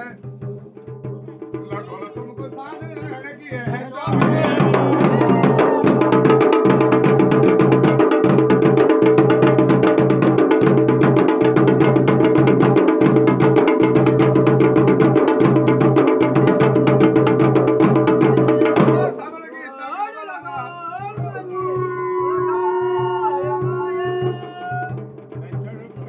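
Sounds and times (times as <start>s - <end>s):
fast even drumming: 0.0s - 19.3s, 20.6s - 26.0s.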